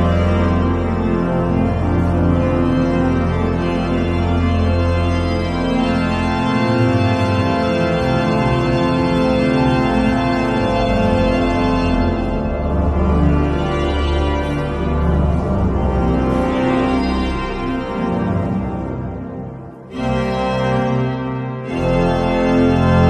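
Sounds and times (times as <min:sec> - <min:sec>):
organ chords: 0:00.0 - 0:23.0.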